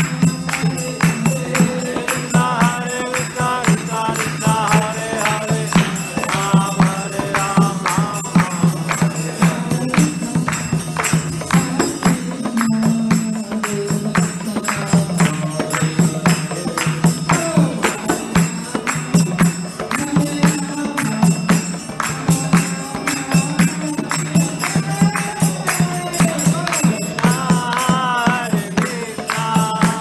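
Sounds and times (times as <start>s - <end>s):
jingling metal percussion: 0.0s - 30.0s
person singing: 0.0s - 30.0s.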